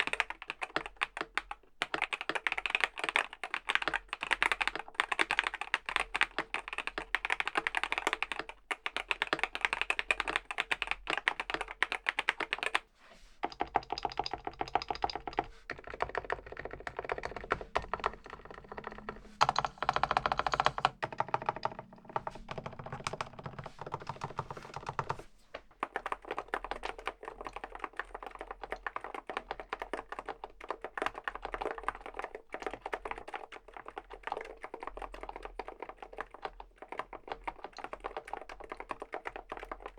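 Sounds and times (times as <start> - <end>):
mechanical keyboard typing: 0.0 - 25.2, 25.8 - 39.9
quiet keyboard keystrokes: 0.0 - 39.9.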